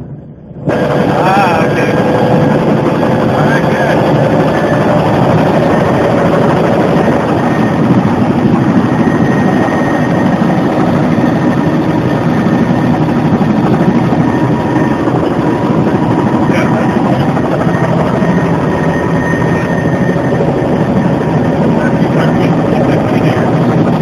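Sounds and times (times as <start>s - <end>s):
faint steady whine: 0.0s - 24.0s
helicopter engine and rotor: 0.0s - 24.0s.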